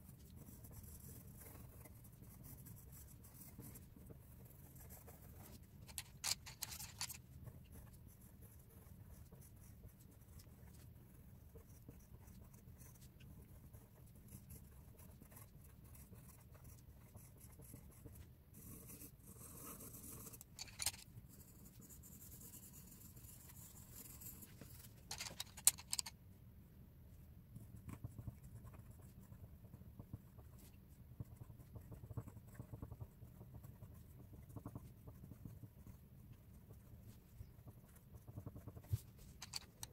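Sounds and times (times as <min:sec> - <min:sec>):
pencil scratching on paper: 0:00.0 - 0:26.1, 0:27.6 - 0:39.9.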